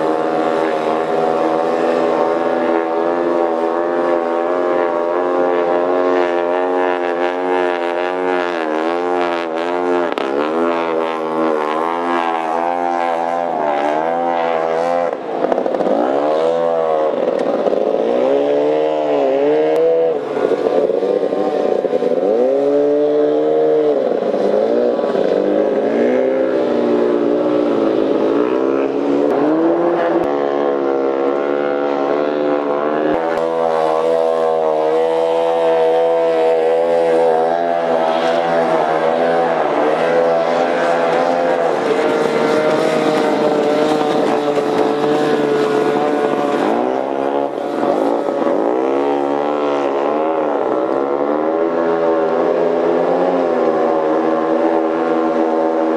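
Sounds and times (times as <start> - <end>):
outboard motors running: 0.0 - 55.9.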